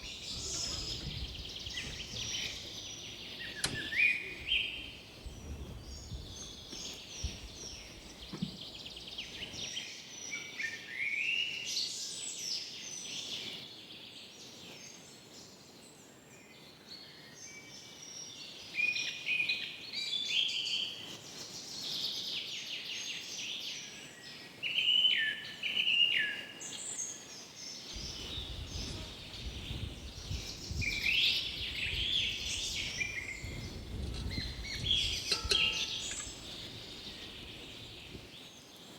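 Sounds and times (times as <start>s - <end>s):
small birds chirping and trilling: 0.0s - 13.8s, 16.6s - 38.9s.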